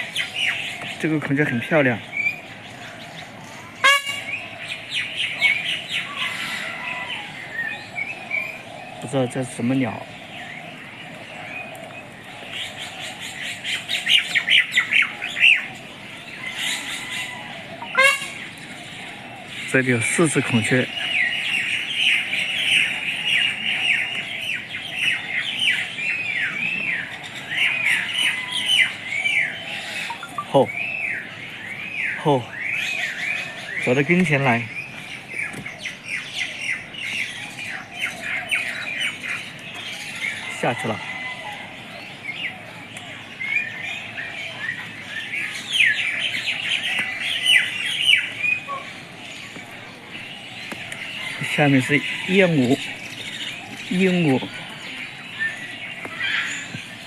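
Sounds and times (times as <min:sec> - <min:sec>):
flock of birds squawking: 0:00.0 - 0:57.0.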